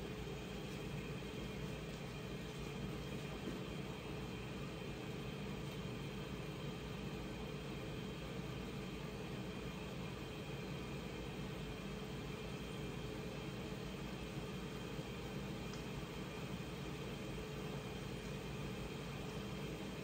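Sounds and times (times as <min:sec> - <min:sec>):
faint constant tone: 0:00.0 - 0:20.0
kitchen background hum and hiss: 0:00.0 - 0:20.0.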